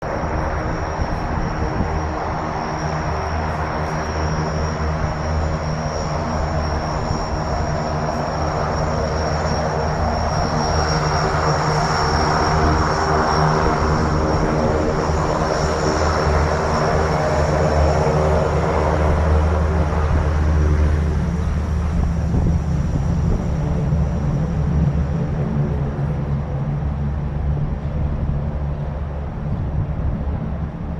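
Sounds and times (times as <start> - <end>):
engine running with low hum: 0.0 - 30.9
rushing noise: 0.0 - 30.9.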